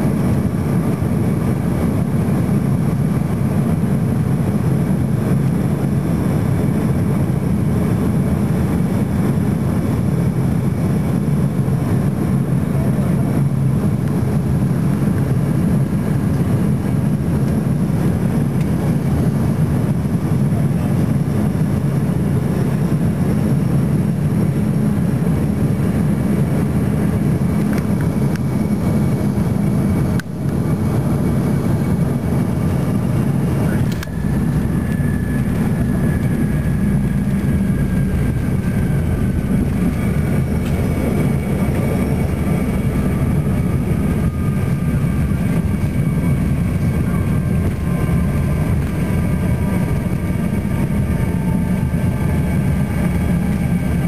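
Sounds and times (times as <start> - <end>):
airflow and jet engines: 0.0 - 54.0.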